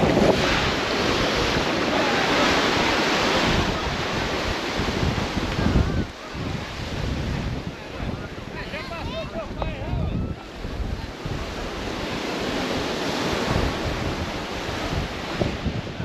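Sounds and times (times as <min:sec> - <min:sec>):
sea waves splashing: 0:00.0 - 0:16.0
wind buffeting microphone: 0:00.0 - 0:16.0.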